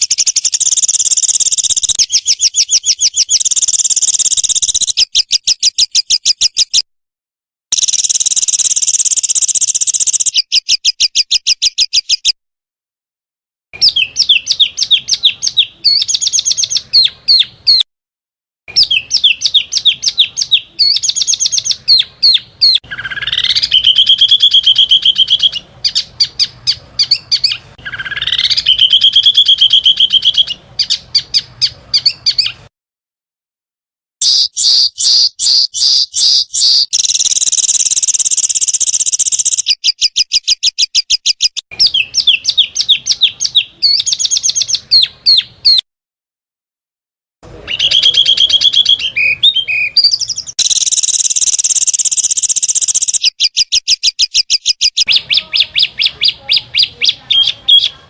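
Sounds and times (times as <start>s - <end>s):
songbirds singing rapid notes: 0.0s - 6.9s, 7.7s - 12.4s, 13.8s - 17.9s, 18.7s - 32.7s, 34.2s - 45.8s, 47.4s - 58.0s.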